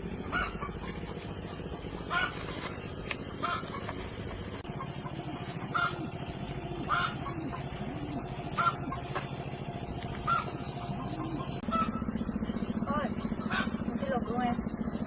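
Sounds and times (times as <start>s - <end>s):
chickens clucking: 0.0s - 13.9s
steady low hum: 0.0s - 15.0s.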